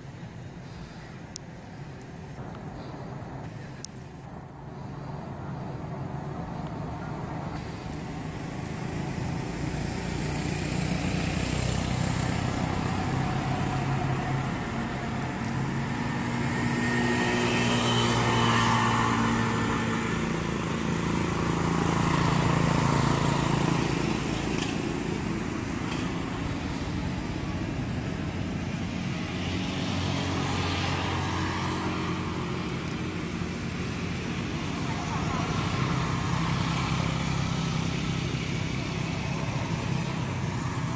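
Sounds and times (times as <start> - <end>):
vehicle engine drone: 0.0 - 40.9.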